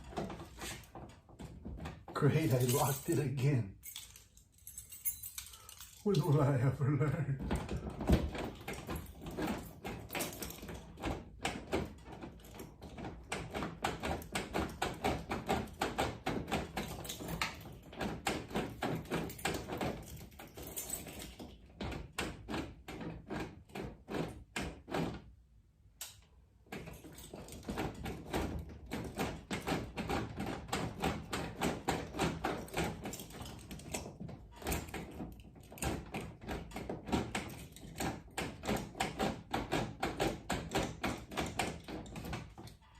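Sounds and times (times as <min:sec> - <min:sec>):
key rattling in a door lock: 0:00.0 - 0:06.6, 0:07.4 - 0:25.3, 0:26.0 - 0:42.9.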